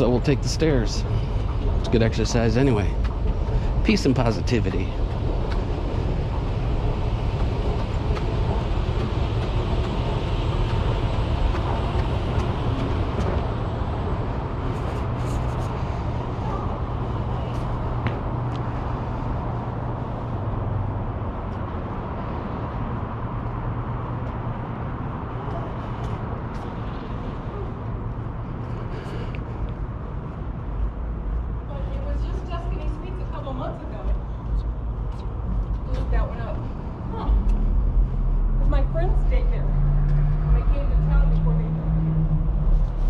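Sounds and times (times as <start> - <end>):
low engine hum: 0.0 - 43.0
road traffic noise: 0.0 - 43.0.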